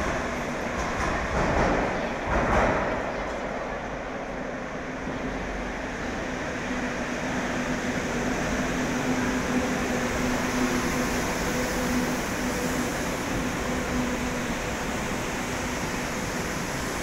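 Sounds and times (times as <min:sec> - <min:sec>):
train rolling past rumbling: 0:00.0 - 0:17.0.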